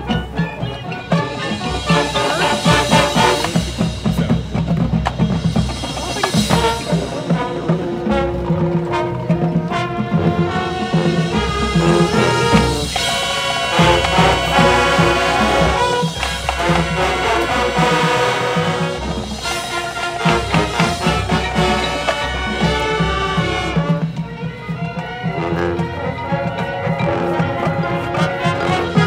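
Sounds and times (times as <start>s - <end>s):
held brass chords: 0.0s - 29.0s
steady drum beat: 0.0s - 29.0s.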